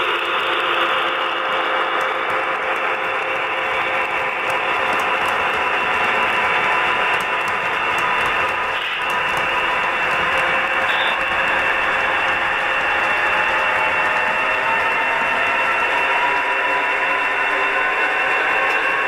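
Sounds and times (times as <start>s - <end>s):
model train humming and whining: 0.0s - 19.0s.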